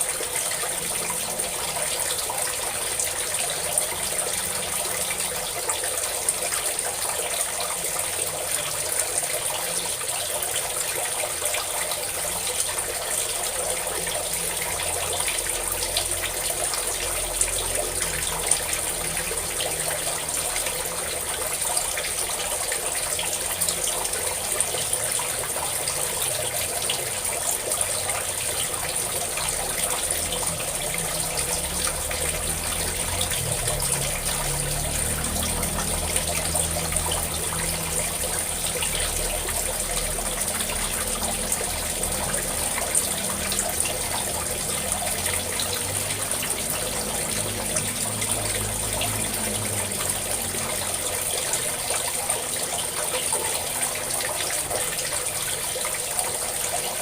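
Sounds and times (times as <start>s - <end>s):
water pouring from a spout: 0.0s - 57.0s.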